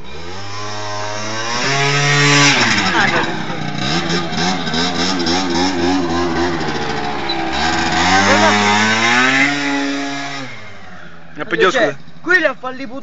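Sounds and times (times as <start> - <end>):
scooter accelerating nearby: 0.0 - 11.3
scooter engine revving: 0.0 - 12.2.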